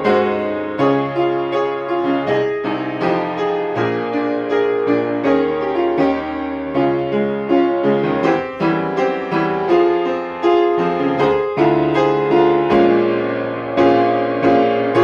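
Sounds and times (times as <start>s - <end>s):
solo piano accompaniment: 0.0s - 15.0s.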